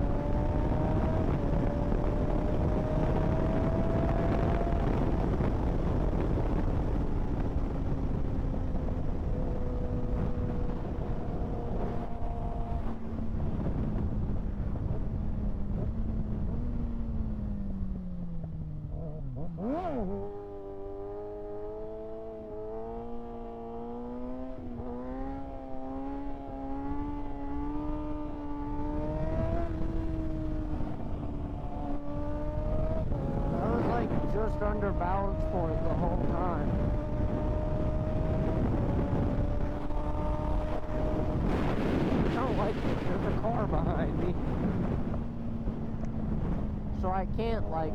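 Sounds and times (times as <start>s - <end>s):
heavy wind noise: 0.0s - 19.0s, 23.8s - 47.9s
motorcycle engine while riding: 0.0s - 47.9s.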